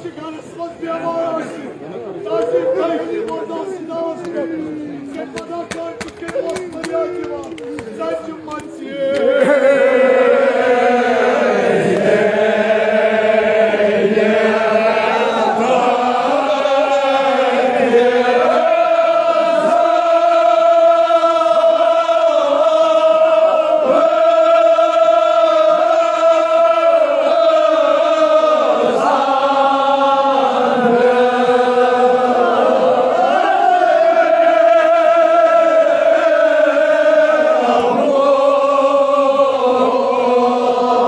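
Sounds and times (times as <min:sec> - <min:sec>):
crowd of men chanting: 0:07.8 - 0:41.0.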